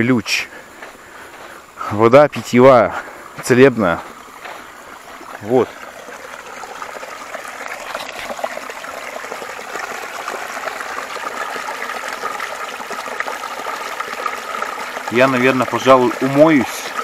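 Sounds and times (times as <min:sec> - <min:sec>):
brook water trickling: 0:00.1 - 0:17.0.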